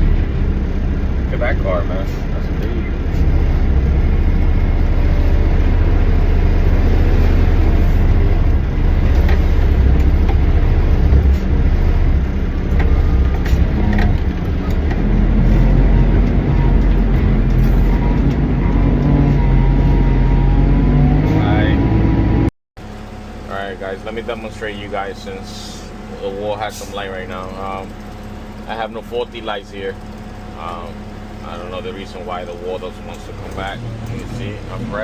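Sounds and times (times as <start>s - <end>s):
diesel truck engine rumble: 0.0s - 35.0s
road noise: 0.0s - 35.0s.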